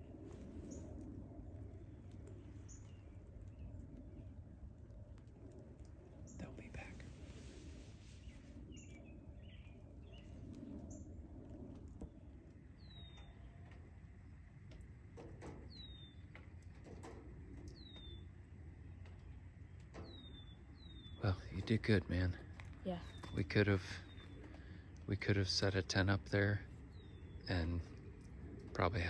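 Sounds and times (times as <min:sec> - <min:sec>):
faint low background noise: 0:00.0 - 0:29.0.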